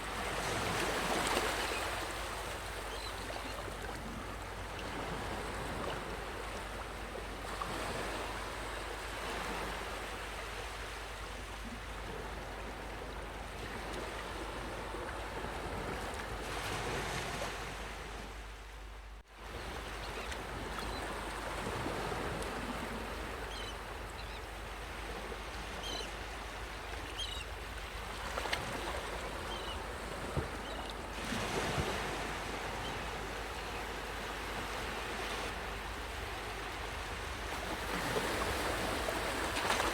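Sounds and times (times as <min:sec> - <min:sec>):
ocean waves washing onto beach: 0:00.0 - 0:18.5, 0:19.4 - 0:39.9.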